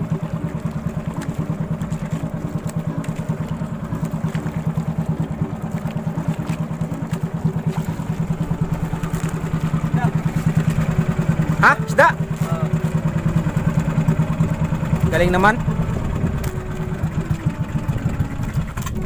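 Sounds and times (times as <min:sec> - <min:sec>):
small boat engine chugging: 0:00.0 - 0:19.0.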